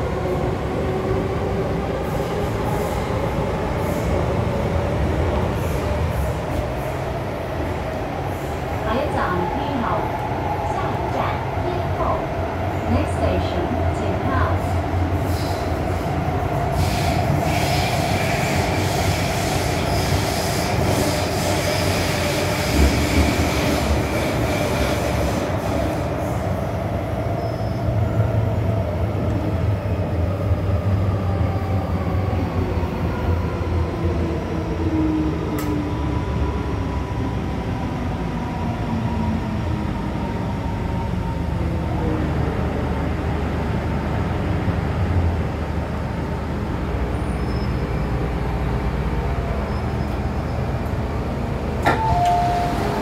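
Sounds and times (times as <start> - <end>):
wheels rumbling on rail: 0.0 - 53.0.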